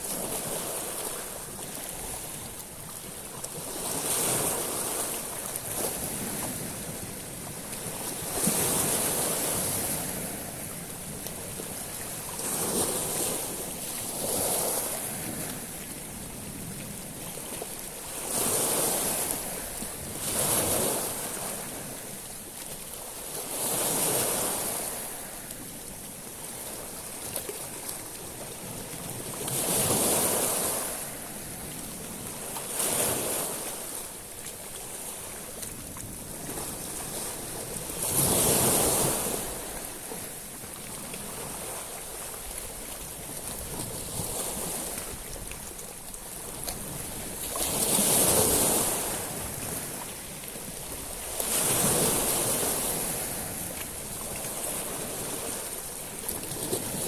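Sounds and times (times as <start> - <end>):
waves washing over pebbles: 0.0 - 57.0.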